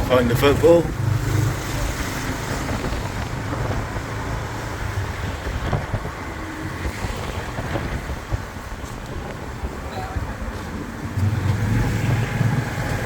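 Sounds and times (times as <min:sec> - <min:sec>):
motorbike low rumble: 0:00.0 - 0:13.0
road traffic: 0:00.0 - 0:13.0
wind rushing over microphone: 0:00.0 - 0:13.0.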